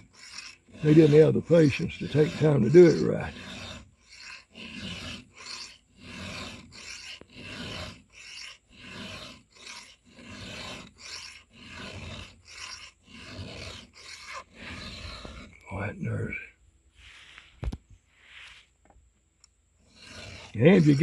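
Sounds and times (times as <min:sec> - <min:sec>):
file rasping on chainsaw chain: 0:00.0 - 0:16.4, 0:19.8 - 0:21.0.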